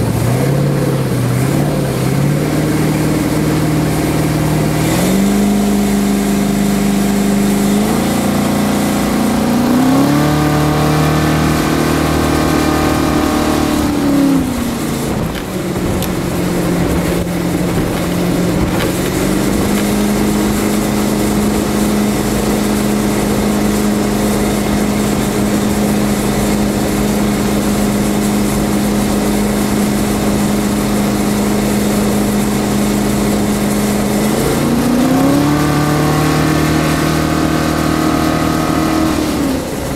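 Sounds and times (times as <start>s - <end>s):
boat engine running: 0.0s - 39.9s
water rushing: 0.0s - 39.9s.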